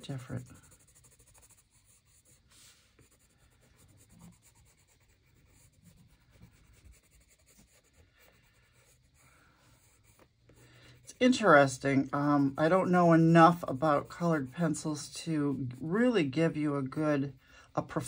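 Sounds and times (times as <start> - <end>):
colored pencil scratching on paper: 0.0 - 18.0.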